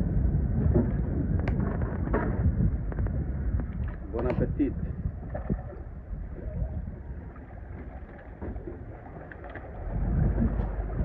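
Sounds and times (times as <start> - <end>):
river water: 0.0 - 11.0
wind rumbling on microphone: 0.0 - 11.0.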